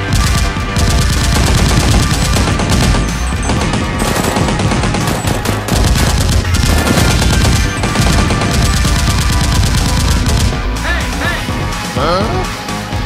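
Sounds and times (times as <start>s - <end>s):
automatic gunfire sound effects: 0.0s - 11.0s
action music: 0.0s - 13.0s.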